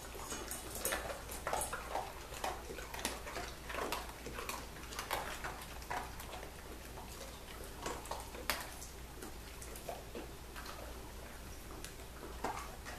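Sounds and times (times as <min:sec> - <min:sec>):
dog crunching dry kibble: 0:00.0 - 0:12.9.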